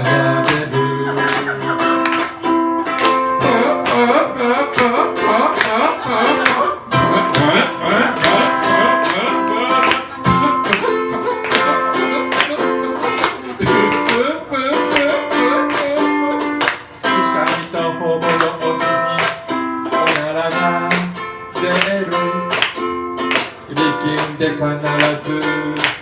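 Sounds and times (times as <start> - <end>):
ukulele strumming chords: 0.0 - 26.0.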